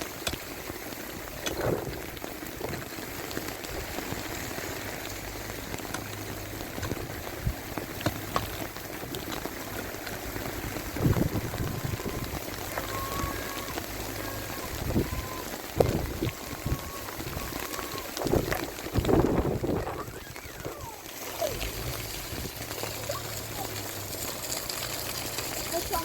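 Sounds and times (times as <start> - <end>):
heavy rain falling: 0.0 - 26.0
water drips: 0.0 - 26.0.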